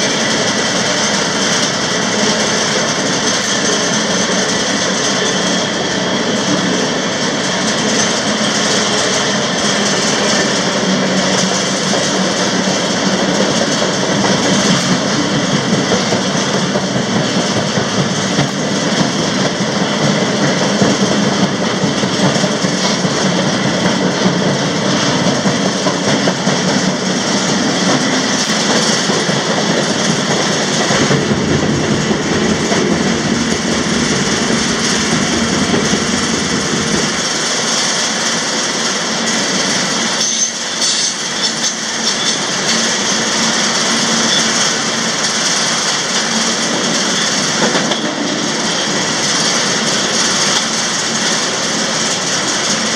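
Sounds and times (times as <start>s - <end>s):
freight train rumbling on rails: 0.0s - 52.9s.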